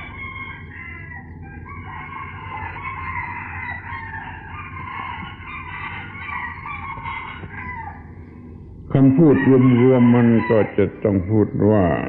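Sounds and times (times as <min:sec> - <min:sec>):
chickens clucking: 0:00.0 - 0:08.1, 0:09.0 - 0:11.5
low hum: 0:00.0 - 0:12.0.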